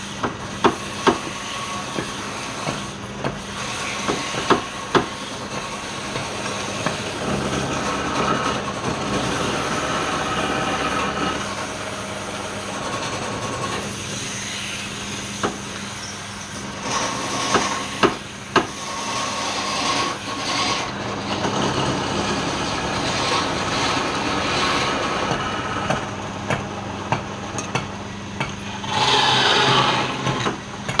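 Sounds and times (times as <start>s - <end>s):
tool cutting spinning wood: 0.0s - 26.1s, 28.7s - 30.7s
lathe motor hum: 0.0s - 27.4s, 28.7s - 30.7s.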